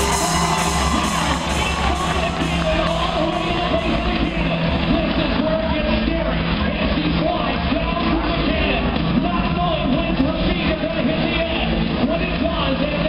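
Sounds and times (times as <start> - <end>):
loud music with singing: 0.0 - 13.0.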